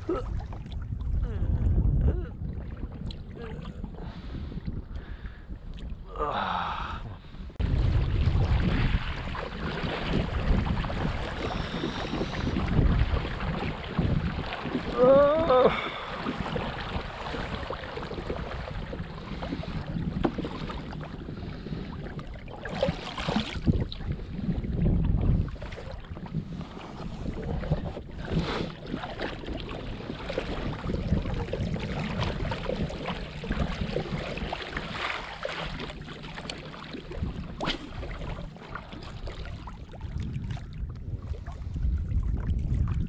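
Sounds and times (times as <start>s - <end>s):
water lapping at hull: 0.0s - 43.0s
wind buffeting microphone: 0.0s - 43.0s.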